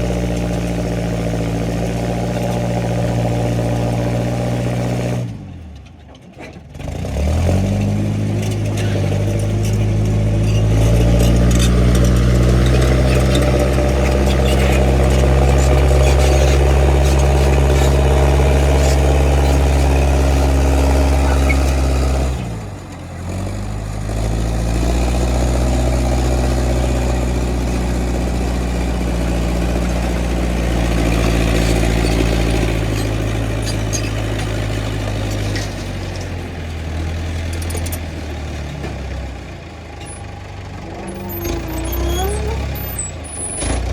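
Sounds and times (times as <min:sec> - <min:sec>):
crawler loader engine under load: 0:00.0 - 0:43.9.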